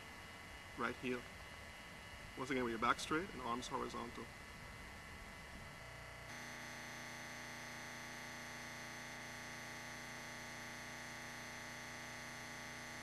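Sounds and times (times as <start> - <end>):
electrical hum and buzz: 0.0 - 13.0.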